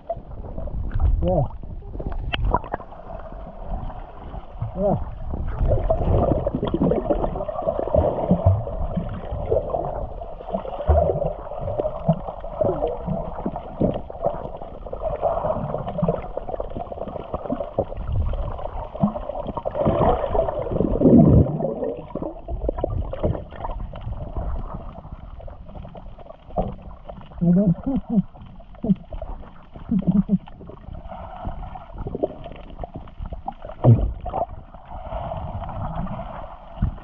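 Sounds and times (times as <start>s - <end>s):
bubbles: 0.0s - 37.0s
muffled underwater water gurgling: 0.0s - 37.0s.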